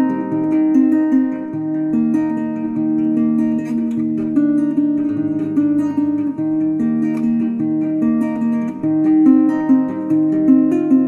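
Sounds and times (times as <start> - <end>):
guitar plucking notes and chords: 0.0 - 11.0.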